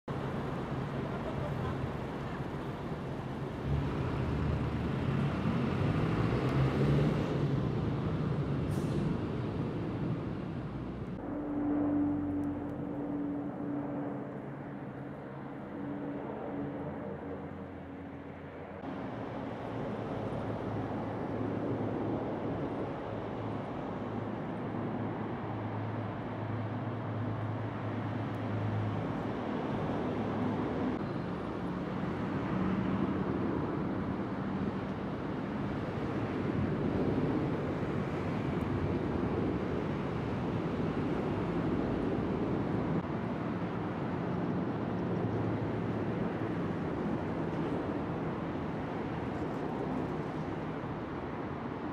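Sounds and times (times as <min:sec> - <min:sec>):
motor vehicles passing: 0:00.1 - 0:51.9.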